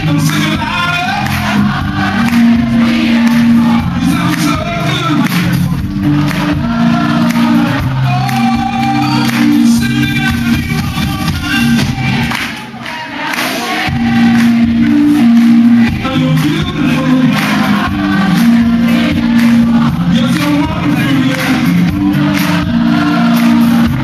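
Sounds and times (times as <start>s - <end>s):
man singing into microphone: 0.0s - 12.0s, 15.9s - 24.0s
live band playing pop song: 0.0s - 24.0s.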